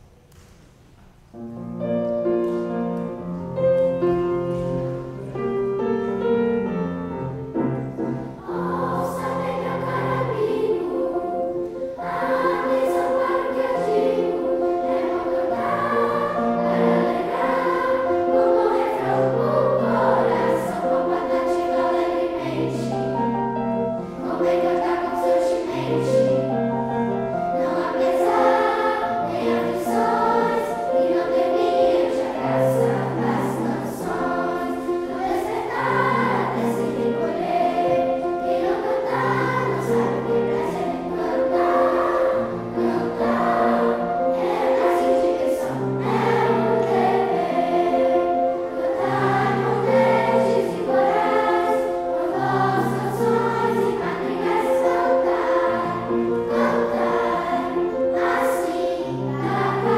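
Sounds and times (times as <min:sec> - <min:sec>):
piano accompaniment: 0:00.0 - 0:59.9
children's choir singing: 0:02.1 - 0:59.9.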